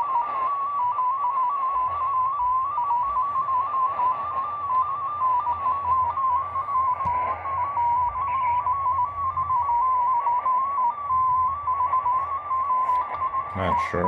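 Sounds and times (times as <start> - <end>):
radio band hiss: 0.0 - 11.3, 12.0 - 14.0
warbling digital data signal: 0.0 - 14.0.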